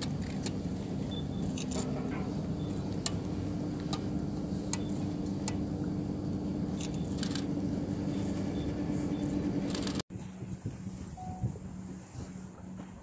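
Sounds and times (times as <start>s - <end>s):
ship engines humming: 0.0s - 13.0s.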